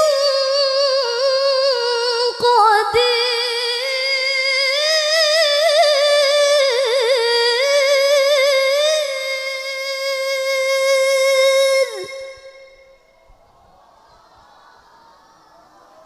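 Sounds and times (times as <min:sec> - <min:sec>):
woman reciting melodically: 0:00.0 - 0:13.1.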